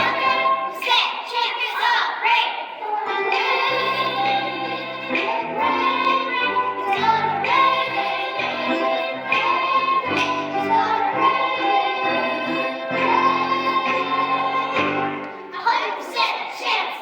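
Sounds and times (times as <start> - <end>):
instrumental accompaniment: 0.0 - 1.2, 2.8 - 16.2
children singing: 0.0 - 17.0.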